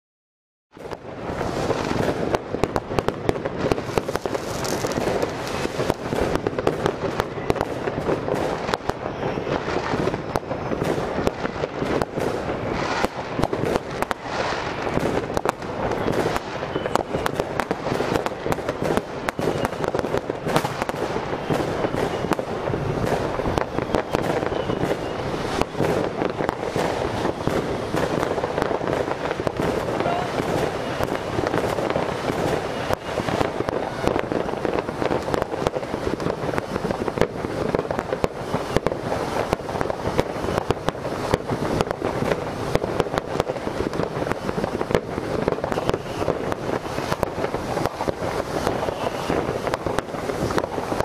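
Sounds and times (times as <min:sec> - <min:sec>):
firework bangs and crackles: 0:00.7 - 0:51.0
firework fountain hissing: 0:00.8 - 0:51.0.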